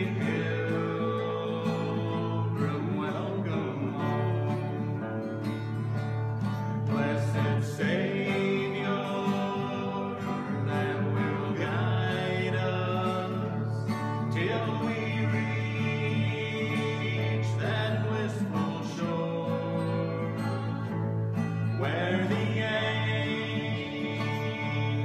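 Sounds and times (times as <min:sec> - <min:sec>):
men singing: 0:00.0 - 0:05.8, 0:06.7 - 0:25.0
acoustic guitars playing: 0:00.0 - 0:25.0.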